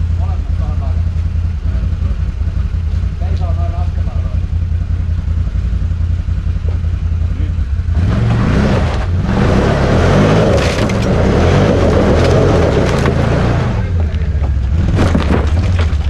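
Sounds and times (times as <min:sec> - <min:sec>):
atv engine revving: 0:00.0 - 0:16.0.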